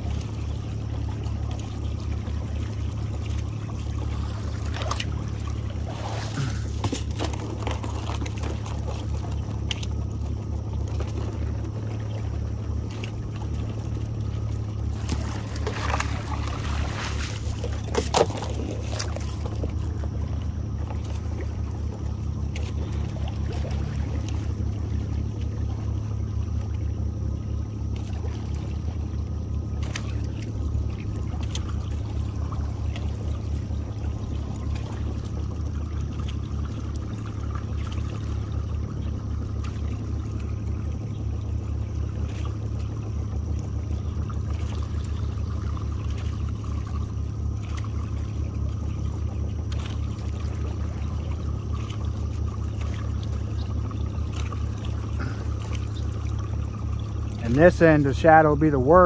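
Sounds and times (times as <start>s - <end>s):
boat motor running: 0.0s - 59.0s
water trickling and splashing: 0.0s - 59.0s.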